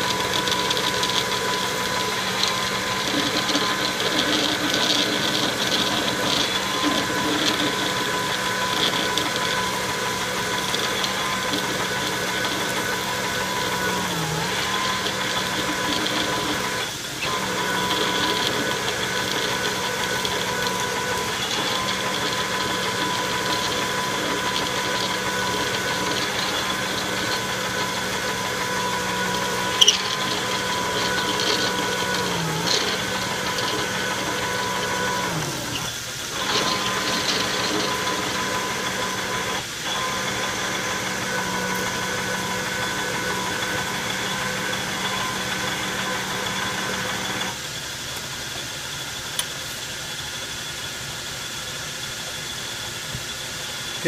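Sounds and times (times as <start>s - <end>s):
metal lathe whining: 0.0s - 54.0s.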